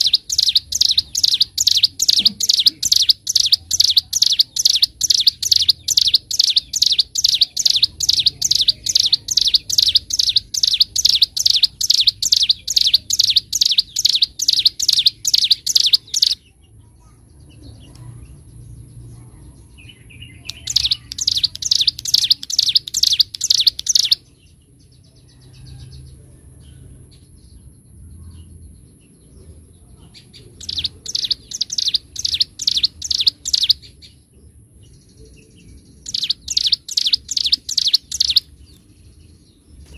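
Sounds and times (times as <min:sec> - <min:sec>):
bird singing rapid high chirps: 0:00.0 - 0:19.0, 0:19.6 - 0:25.1, 0:30.1 - 0:39.9.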